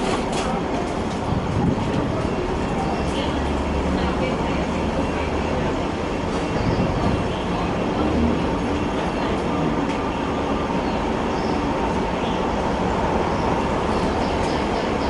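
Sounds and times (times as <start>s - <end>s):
road traffic: 0.0s - 15.0s
tram hum and rumble: 0.0s - 15.0s.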